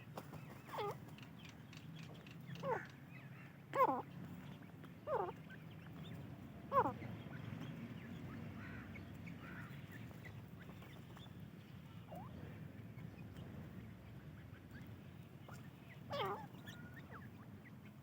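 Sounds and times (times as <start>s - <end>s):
chicks gliding calls: 0.0s - 18.0s
low steady hum: 0.0s - 18.0s.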